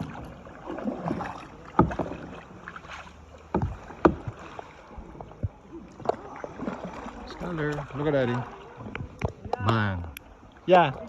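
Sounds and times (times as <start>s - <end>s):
kayak paddle strokes in water: 0.0s - 11.0s
low wash of water: 0.0s - 11.0s.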